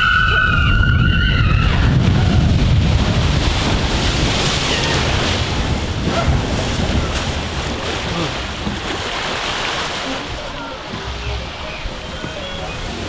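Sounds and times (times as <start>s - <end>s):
boat rushing through water: 0.0s - 13.0s
water splashing and churning: 0.0s - 13.0s
wind buffeting microphone: 0.0s - 13.0s.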